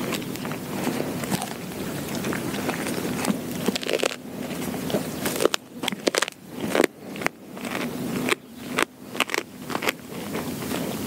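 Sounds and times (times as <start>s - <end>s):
dog chewing: 0.0s - 11.0s
dog crunching bones: 0.0s - 11.0s.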